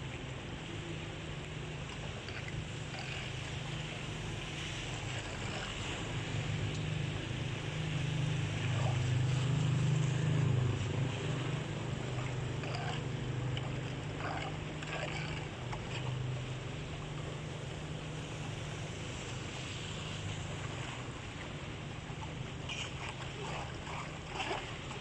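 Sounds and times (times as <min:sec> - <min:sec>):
soft splashes of raking: 0:00.0 - 0:25.0
water rumbling into culvert: 0:00.0 - 0:25.0
rushing water hiss: 0:00.6 - 0:25.0.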